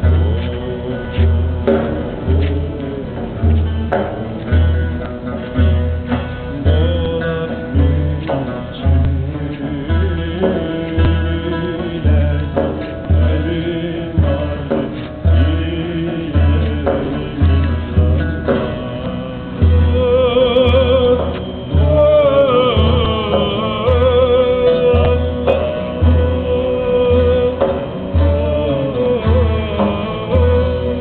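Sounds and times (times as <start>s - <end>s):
frame drum beating: 0.0s - 31.0s
person singing melody: 0.0s - 31.0s
plucked string instrument: 0.0s - 31.0s.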